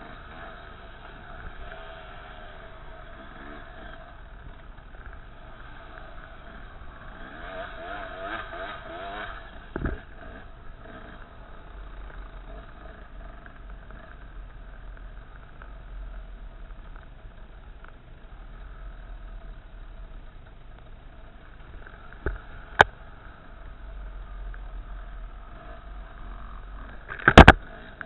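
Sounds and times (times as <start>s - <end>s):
low rumble of wind: 0.0s - 28.0s
motorcycle engine running: 0.0s - 28.0s.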